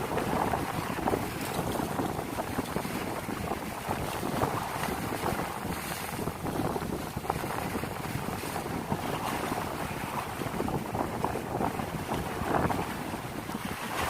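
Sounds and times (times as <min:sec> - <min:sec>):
rough sea water noise: 0:00.0 - 0:14.0
wind blowing across microphone: 0:00.0 - 0:14.0.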